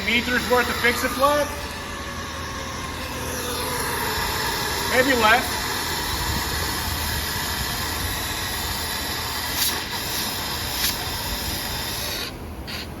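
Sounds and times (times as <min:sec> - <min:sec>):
steady hissing noise: 0:00.0 - 0:13.0
short hissing spurts: 0:02.4 - 0:12.9.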